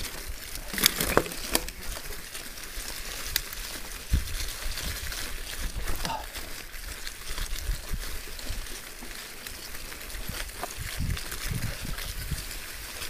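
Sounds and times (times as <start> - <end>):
bike clicking and rattling: 0.0 - 13.0
grass swishing against bike tyres: 0.0 - 13.0.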